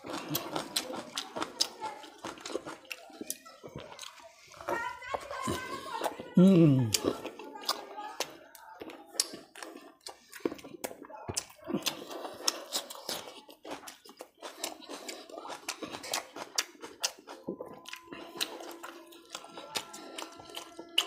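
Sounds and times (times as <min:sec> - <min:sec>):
man chewing raw onion: 0:00.0 - 0:04.3, 0:06.0 - 0:21.0.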